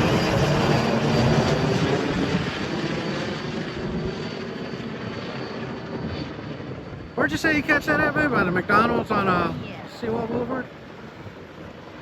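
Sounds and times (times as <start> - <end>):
helicopter flying: 0.0 - 12.0.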